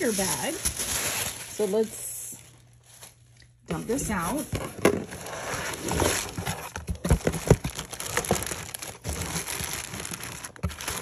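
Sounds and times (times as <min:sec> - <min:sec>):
plastic packaging crinkling: 0:00.0 - 0:03.6, 0:05.1 - 0:11.0.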